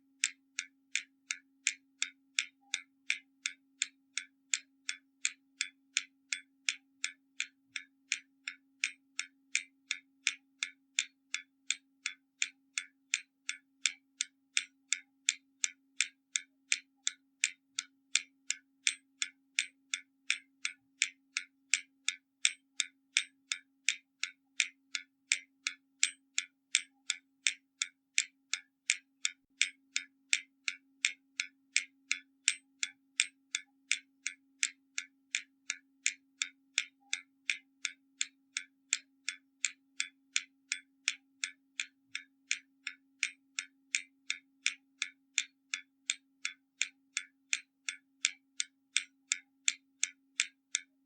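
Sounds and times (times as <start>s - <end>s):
clock ticking: 0.0s - 51.0s.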